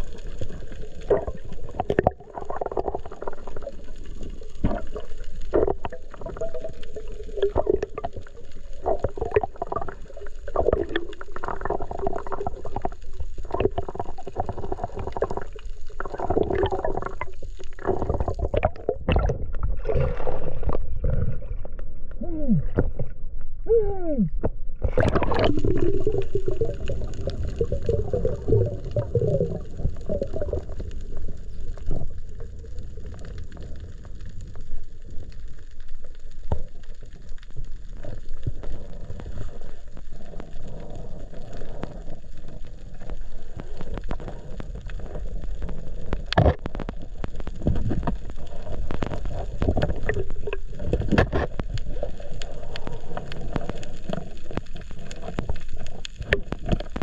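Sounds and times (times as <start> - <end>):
low underwater rumble: 0.0 - 57.0
underwater bubbling: 0.0 - 57.0.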